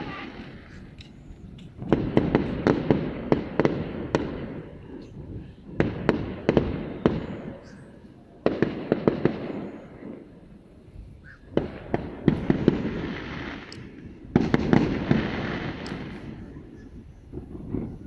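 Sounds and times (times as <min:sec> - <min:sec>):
distant fireworks bangs: 0:00.0 - 0:10.6, 0:11.3 - 0:18.0.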